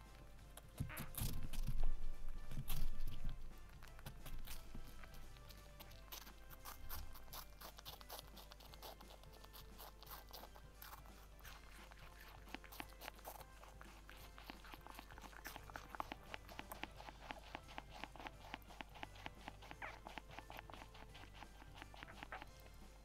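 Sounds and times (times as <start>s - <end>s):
rabbit chewing: 0.0s - 23.0s.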